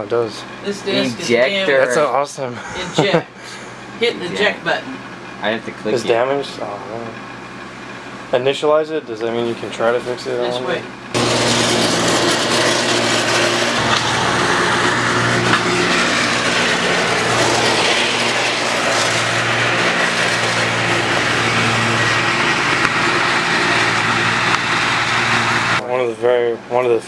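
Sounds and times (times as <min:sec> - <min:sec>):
small engine droning: 0:00.0 - 0:27.0.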